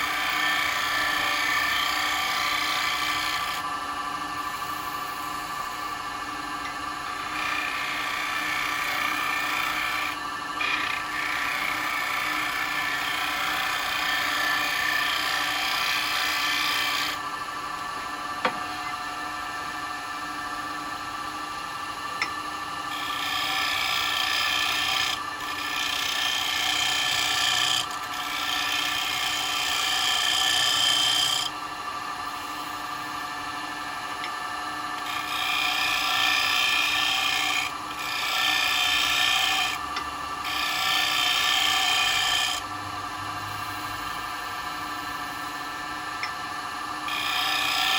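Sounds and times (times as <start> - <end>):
wood lathe motor hum: 0.0 - 47.9.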